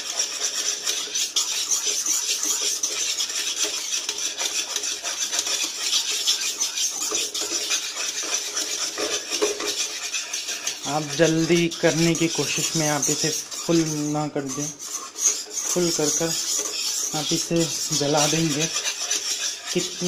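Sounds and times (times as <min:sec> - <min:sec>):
spatula scraping a pan: 0:00.0 - 0:20.0.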